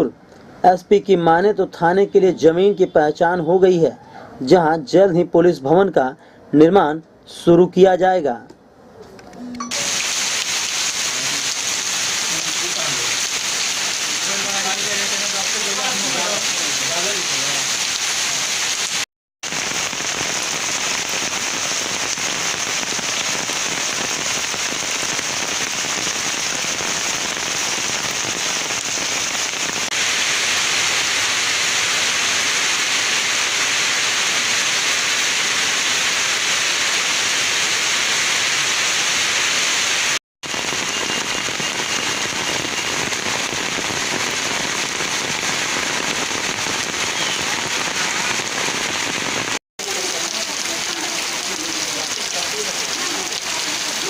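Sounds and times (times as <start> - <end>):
steady rain falling: 9.7 - 54.0.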